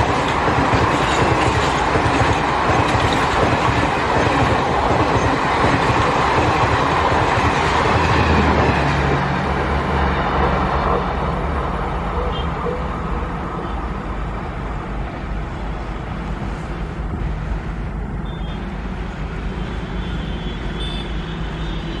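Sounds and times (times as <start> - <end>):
train coaches rumbling on rails: 0.0 - 22.0.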